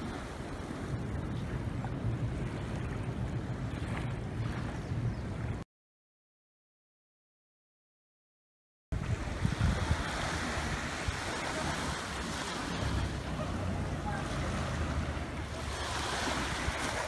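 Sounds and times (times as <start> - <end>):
small waves washing on beach: 0.0 - 5.6, 9.0 - 17.0
wind buffeting microphone: 0.0 - 5.6, 8.9 - 17.0.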